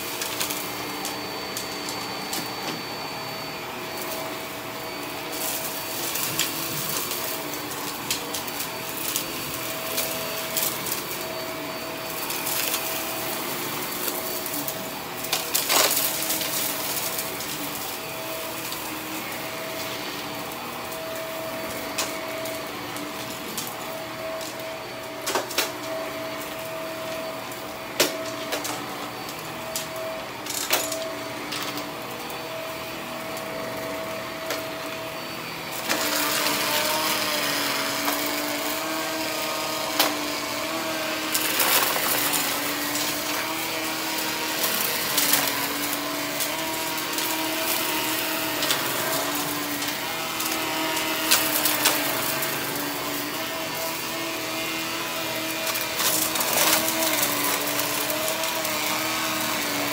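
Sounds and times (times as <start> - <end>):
vacuum motor whine: 0.0 - 59.9.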